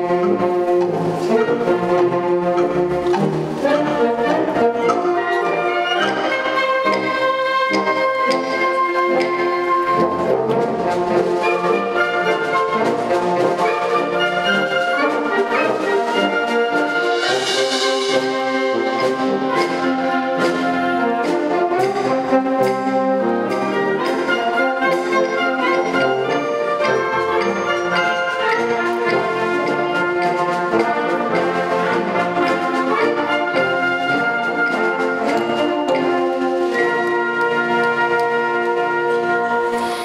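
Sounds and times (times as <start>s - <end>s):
wind band playing: 0.0s - 40.0s.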